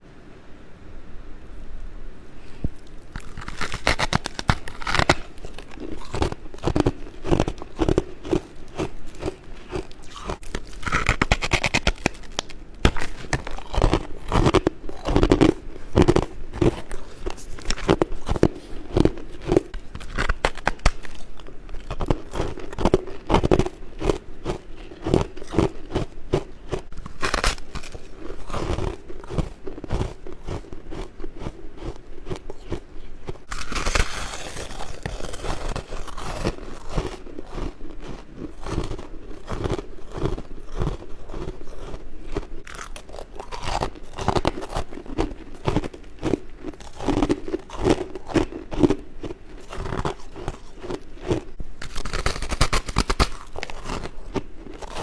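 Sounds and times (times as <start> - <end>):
crisp crunching bites: 3.1 - 55.0.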